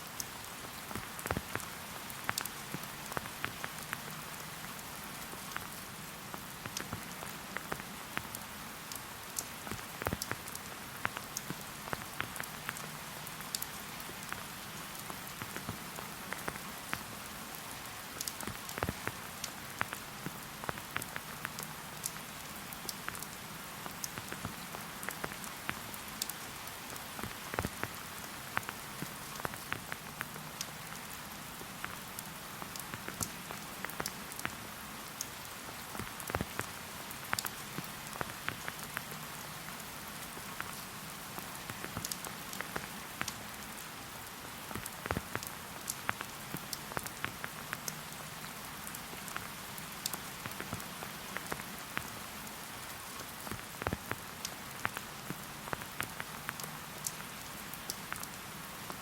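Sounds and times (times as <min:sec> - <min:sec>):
rain falling in a forest: 0:00.0 - 0:59.0
raindrops pattering: 0:00.0 - 0:59.0.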